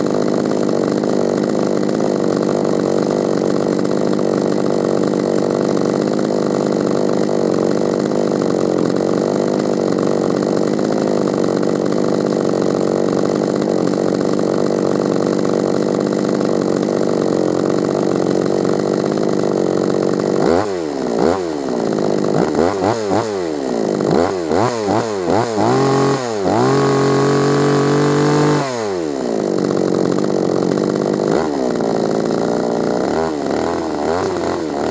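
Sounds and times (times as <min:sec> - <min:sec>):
chainsaw idling and revving: 0:00.0 - 0:34.9.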